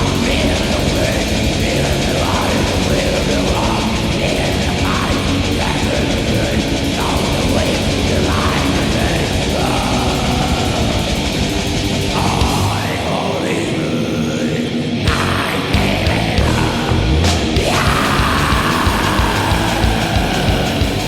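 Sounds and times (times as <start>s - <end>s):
black metal music: 0.0s - 21.0s.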